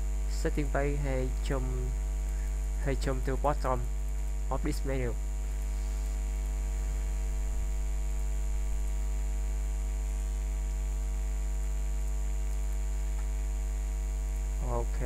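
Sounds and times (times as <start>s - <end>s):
electrical mains hum: 0.0s - 15.0s
thin high whine: 0.0s - 15.0s.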